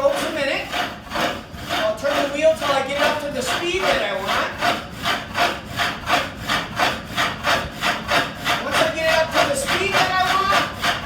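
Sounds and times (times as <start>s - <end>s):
sash saw rasping through wood: 0.0s - 11.0s.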